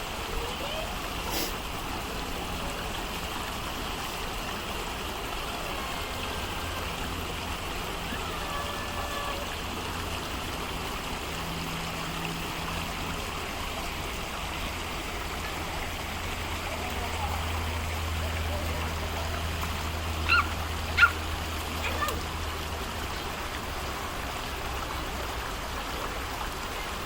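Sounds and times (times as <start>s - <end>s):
creek water flowing: 0.0s - 27.0s.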